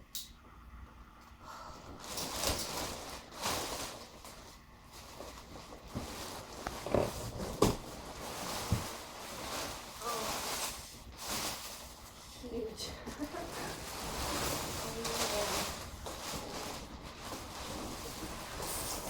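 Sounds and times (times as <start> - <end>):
rustling from unpacking: 1.9 - 19.0.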